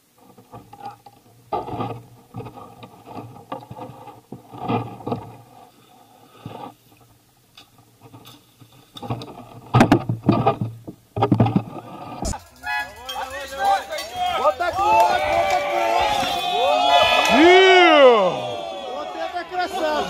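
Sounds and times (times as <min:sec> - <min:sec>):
bike rattling: 0:00.0 - 0:20.0.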